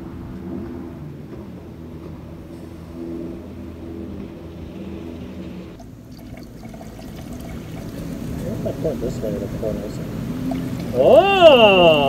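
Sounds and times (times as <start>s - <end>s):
large engine humming: 0.0s - 12.0s.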